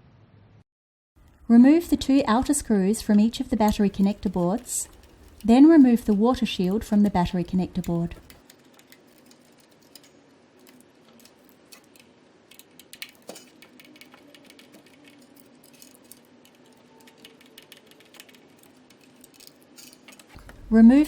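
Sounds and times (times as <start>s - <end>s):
small screws clicking: 3.1s - 20.5s.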